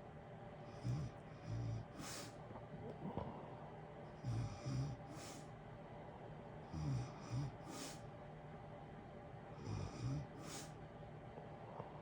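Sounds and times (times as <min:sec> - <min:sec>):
room heater hiss: 0:00.0 - 0:12.0.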